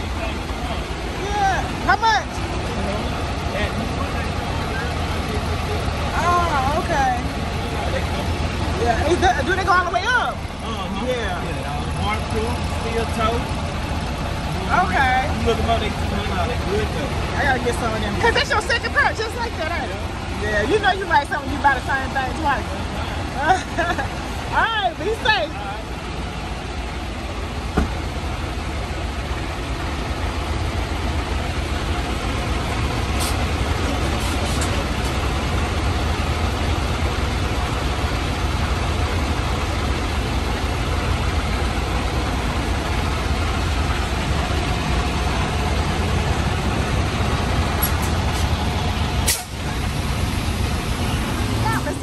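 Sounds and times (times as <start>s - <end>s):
diesel truck engine running: 0.0s - 52.0s.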